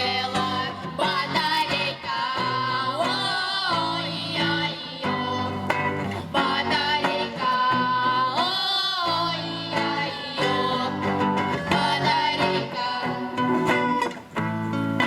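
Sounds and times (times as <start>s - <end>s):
girls singing: 0.0s - 14.1s
guitar accompaniment: 0.0s - 15.0s.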